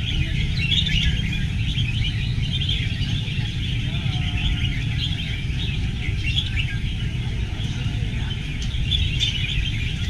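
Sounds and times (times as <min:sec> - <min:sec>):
birds chirping chorus: 0:00.0 - 0:10.0.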